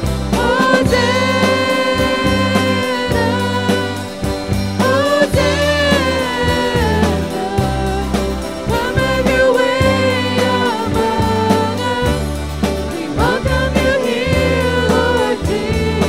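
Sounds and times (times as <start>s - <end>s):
bass line: 0.0s - 16.0s
regular beat: 0.0s - 16.0s
person singing long notes: 0.4s - 16.0s.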